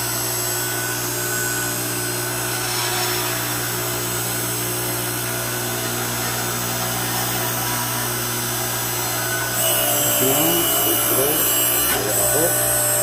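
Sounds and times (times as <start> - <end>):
log splitter motor hum: 0.0 - 13.0.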